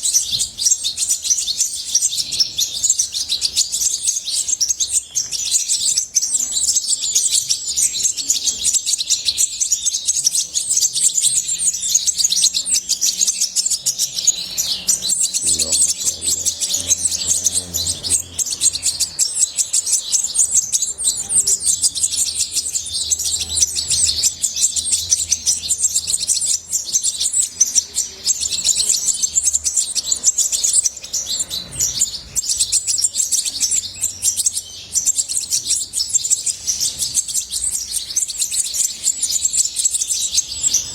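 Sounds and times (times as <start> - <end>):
goldfinch twittering: 0.0 - 40.9.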